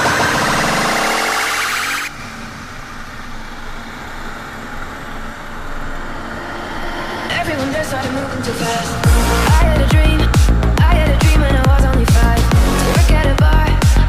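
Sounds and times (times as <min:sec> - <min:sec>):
loud rising whine: 0:00.0 - 0:11.7
motorcycle engine riding: 0:02.1 - 0:14.0.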